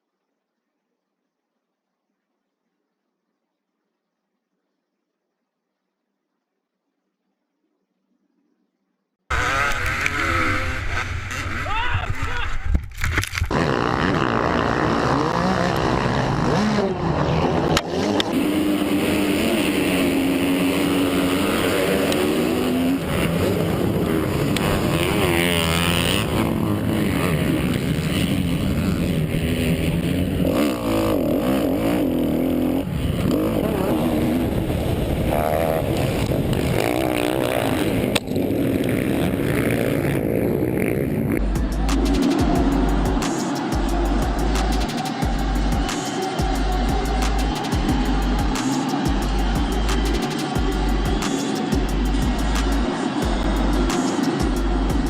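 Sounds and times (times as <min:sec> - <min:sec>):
dirt bike engines racing: 0:09.3 - 0:12.6, 0:13.4 - 0:55.0.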